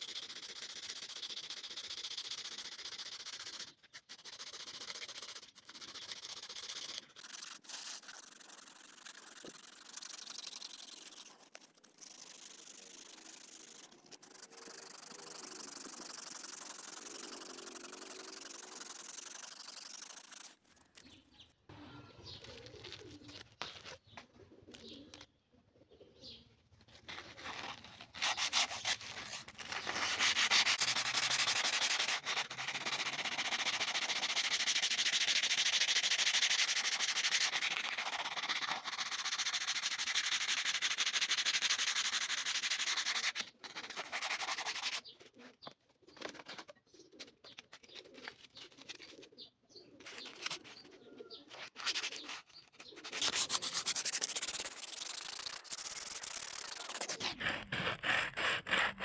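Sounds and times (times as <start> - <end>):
sandpaper rubbing: 0.0 - 21.0, 27.0 - 45.1, 50.0 - 59.0.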